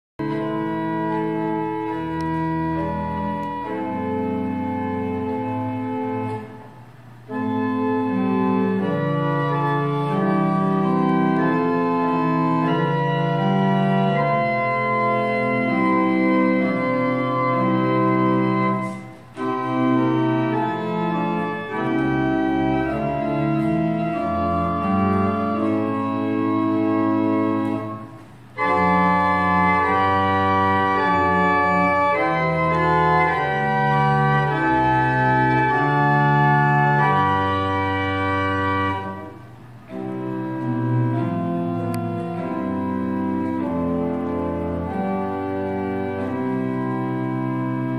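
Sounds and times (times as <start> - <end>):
church organ chords: 0.2 - 47.9.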